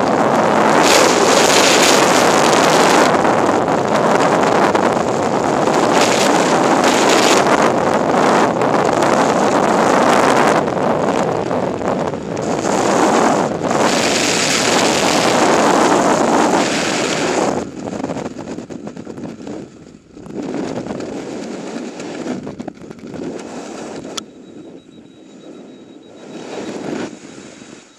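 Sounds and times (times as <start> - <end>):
wind rushing over microphone: 0.0 - 27.9.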